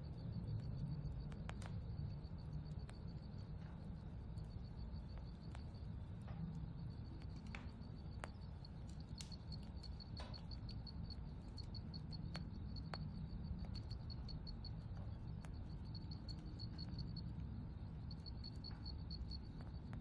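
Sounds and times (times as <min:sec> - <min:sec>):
cricket chirping: 0:00.0 - 0:20.0
faint clicks: 0:00.5 - 0:03.8, 0:05.1 - 0:20.0.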